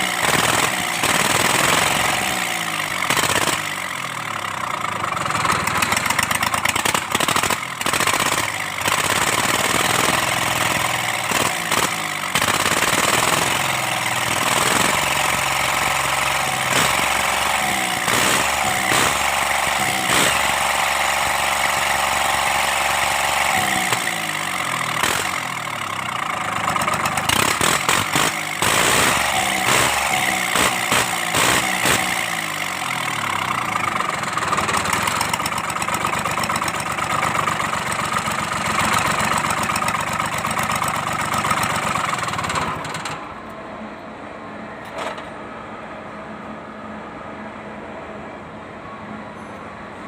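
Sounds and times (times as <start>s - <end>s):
diesel engine revving: 0.0s - 43.5s.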